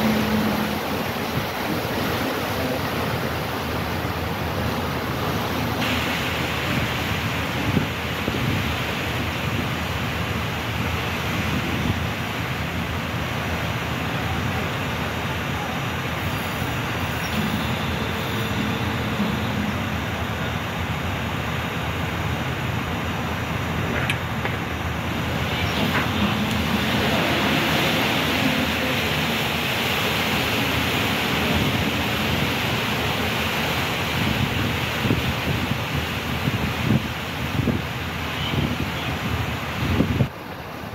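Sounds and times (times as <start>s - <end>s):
churning propeller wash: 0.0s - 40.9s
ship engine rumble: 0.0s - 40.9s.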